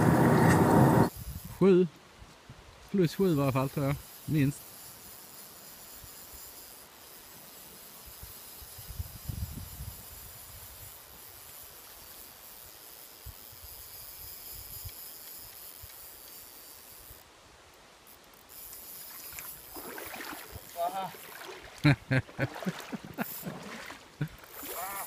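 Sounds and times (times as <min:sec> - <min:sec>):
river water hissing: 0:00.0 - 0:02.2, 0:02.9 - 0:25.0.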